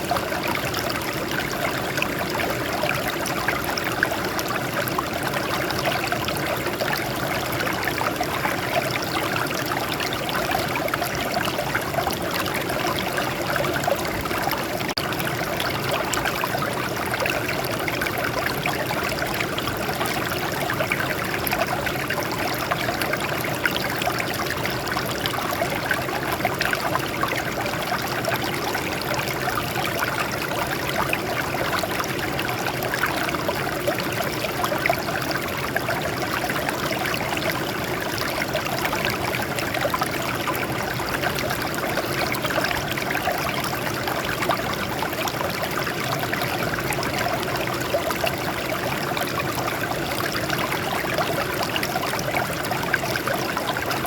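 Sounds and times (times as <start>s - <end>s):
water trickling over rocks: 0.0s - 54.0s.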